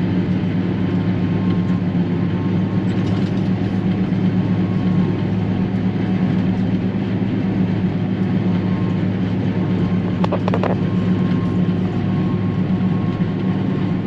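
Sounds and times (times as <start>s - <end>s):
harvester low drone: 0.0s - 14.0s.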